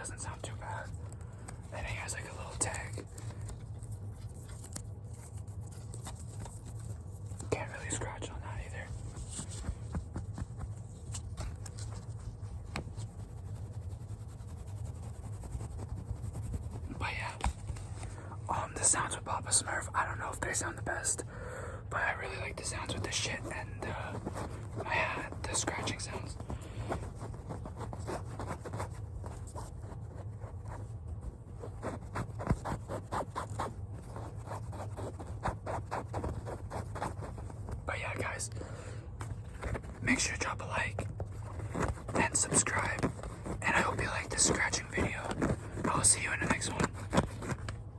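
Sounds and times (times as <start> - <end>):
fingertips scratching an object: 0.0 - 21.2, 22.0 - 38.5, 39.2 - 47.9.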